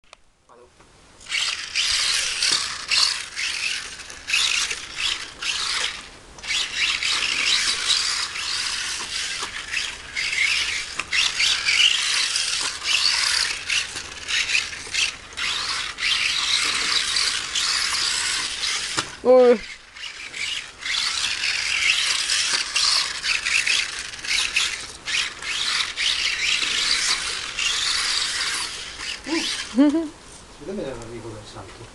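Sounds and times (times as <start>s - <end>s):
toy car motor whirring: 1.2s - 30.1s.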